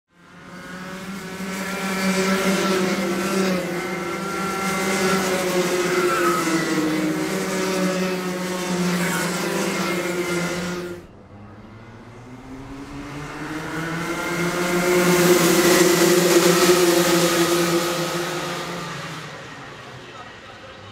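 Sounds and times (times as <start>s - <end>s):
kart engines racing: 0.1s - 20.9s.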